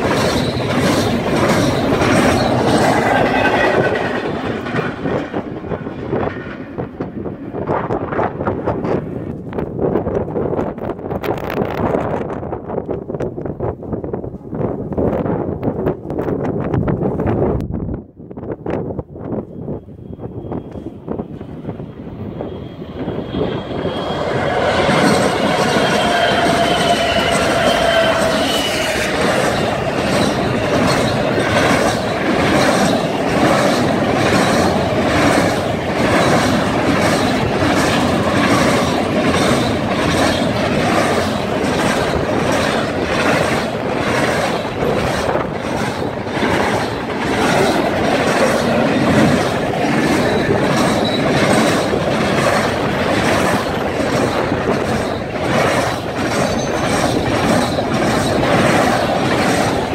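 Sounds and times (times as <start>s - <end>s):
rhythmic clickety-clack of wheels: 0.0s - 13.5s, 22.9s - 59.9s
steel wheels rumbling on rail: 0.0s - 59.9s.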